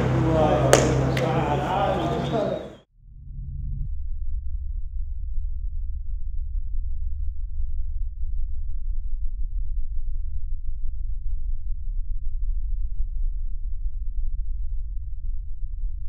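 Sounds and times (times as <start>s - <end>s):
deep bass drone: 0.0s - 16.0s.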